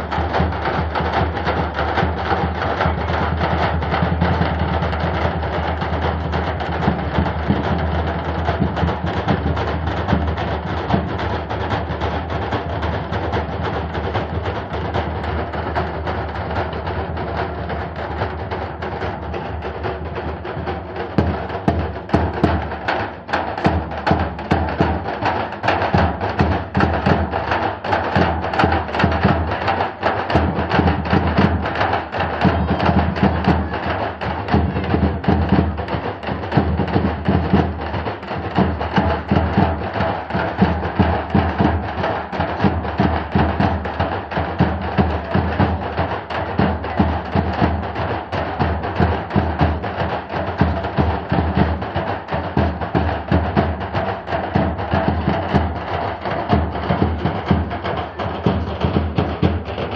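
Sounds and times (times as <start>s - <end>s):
music with fast drum beats: 0.0s - 59.9s.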